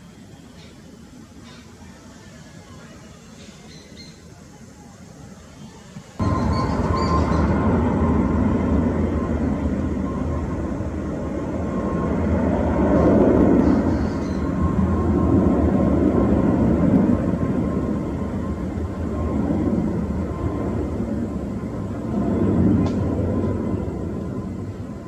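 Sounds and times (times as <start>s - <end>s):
jet engines rumbling: 0.0s - 25.0s
thin steady whine: 0.0s - 25.0s.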